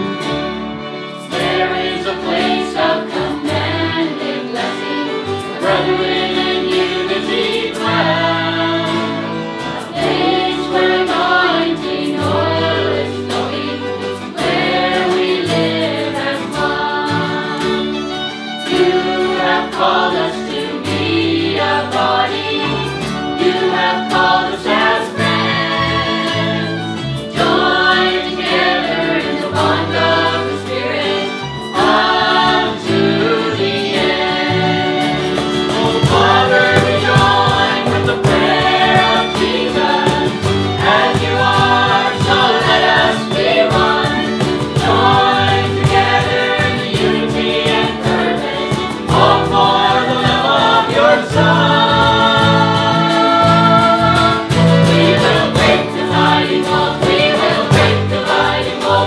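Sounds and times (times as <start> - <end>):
acoustic guitar: 0.0 - 59.0
violin: 0.0 - 59.0
group singing worship song: 0.9 - 59.0
cajon: 1.2 - 17.9, 18.6 - 59.0.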